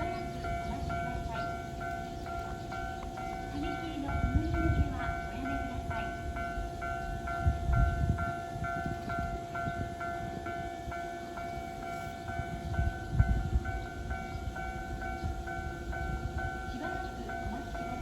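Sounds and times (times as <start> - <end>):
level crossing warning bell: 0.0 - 18.0
train rumbling on tracks: 0.0 - 18.0.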